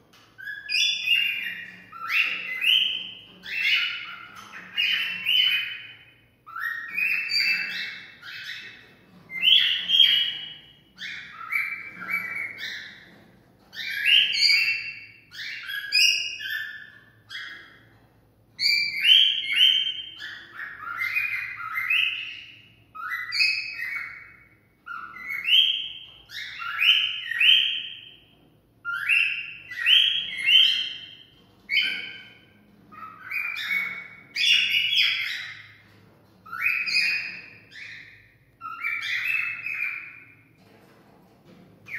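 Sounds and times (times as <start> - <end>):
cockatiel whistling song: 0.2 - 13.1, 13.7 - 17.9, 18.6 - 35.8, 36.4 - 40.4.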